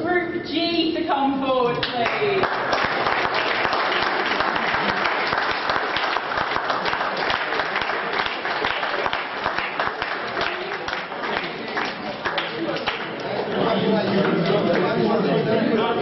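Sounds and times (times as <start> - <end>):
crowd applauding: 1.9 - 15.2.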